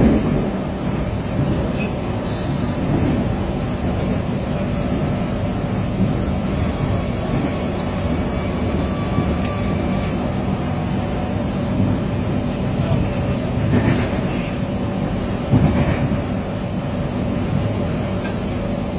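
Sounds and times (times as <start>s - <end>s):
train rumble from inside coach: 0.0s - 18.9s.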